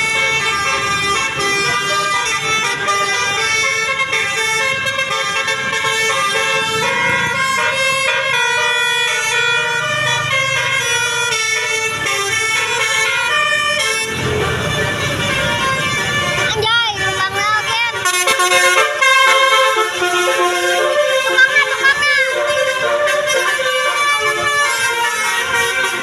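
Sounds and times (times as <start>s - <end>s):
multi-tone bus horn tune: 0.0s - 26.0s.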